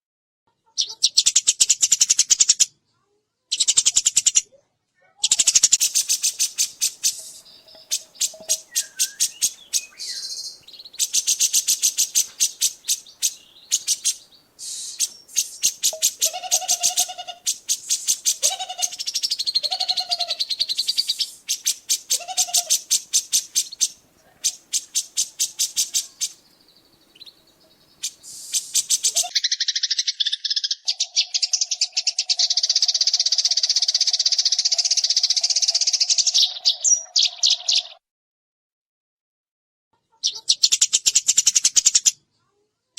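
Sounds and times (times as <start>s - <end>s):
songbird chips and trills: 0.8s - 2.7s, 5.2s - 38.0s.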